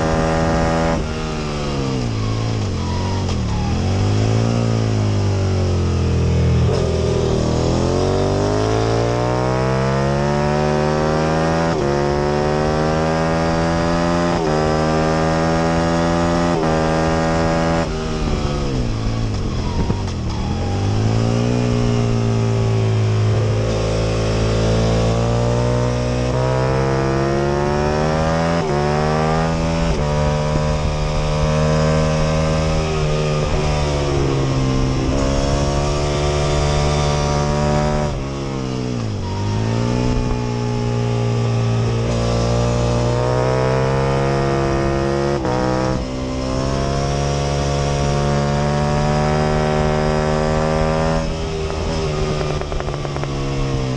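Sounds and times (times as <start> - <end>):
motorcycle engine revving through gears: 0.0 - 53.9.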